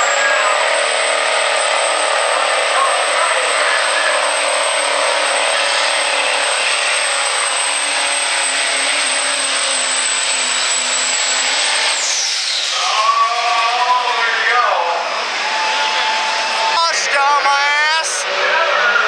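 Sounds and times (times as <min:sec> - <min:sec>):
diesel truck engine roaring: 0:00.0 - 0:19.0.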